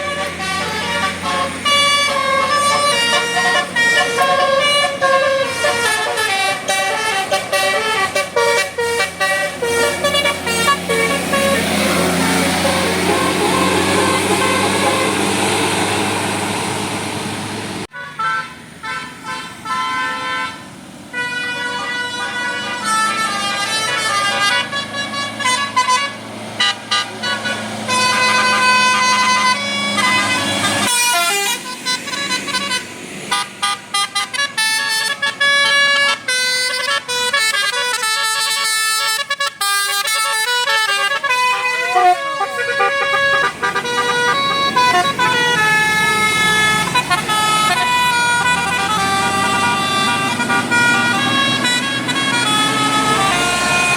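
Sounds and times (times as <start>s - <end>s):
multi-tone bus air horns: 0.0s - 53.9s.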